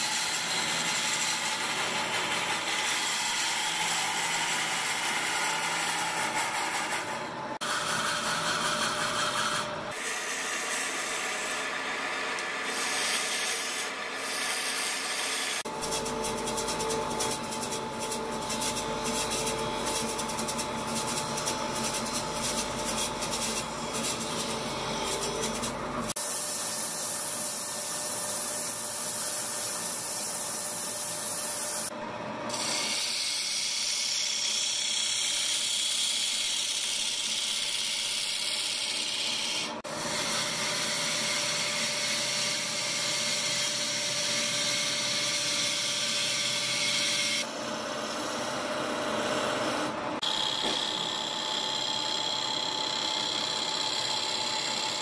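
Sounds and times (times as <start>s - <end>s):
rasping wood-cutting noise: 0.0s - 55.0s.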